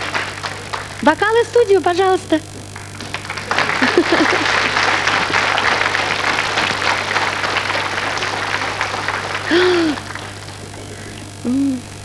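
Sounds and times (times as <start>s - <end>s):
audience applauding: 0.0s - 11.8s
low hum: 0.0s - 12.0s.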